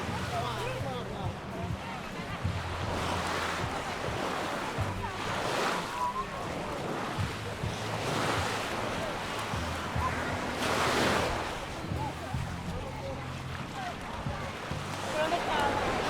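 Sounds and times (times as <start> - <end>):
faint distant voices: 0.0 - 16.0
surf washing onto beach: 0.0 - 16.0
wind rumbling on microphone: 0.0 - 16.0.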